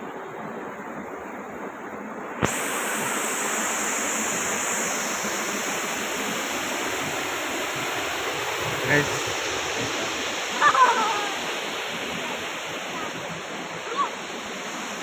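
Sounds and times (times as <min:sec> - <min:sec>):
waterfall rushing: 0:02.3 - 0:15.0.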